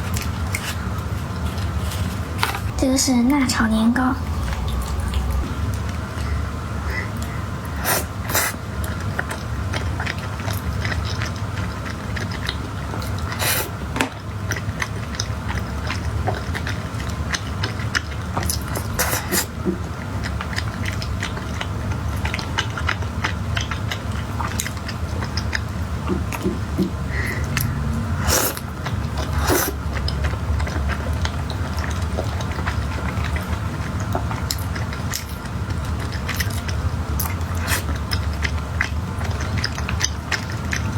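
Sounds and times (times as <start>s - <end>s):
chewing with mouth clicks: 0.0s - 2.7s, 4.3s - 40.9s
low steady hum: 0.0s - 40.9s.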